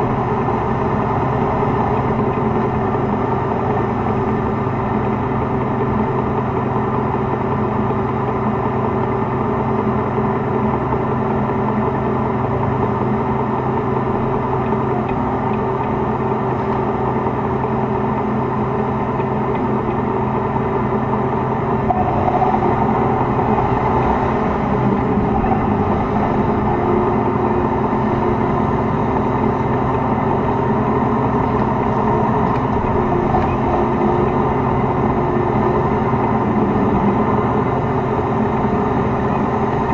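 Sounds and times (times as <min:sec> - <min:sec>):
tank diesel engine running: 0:00.0 - 0:39.9.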